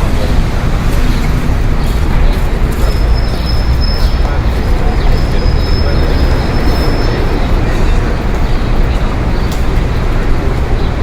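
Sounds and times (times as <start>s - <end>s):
low rumble of passing vehicles: 0.0s - 11.0s.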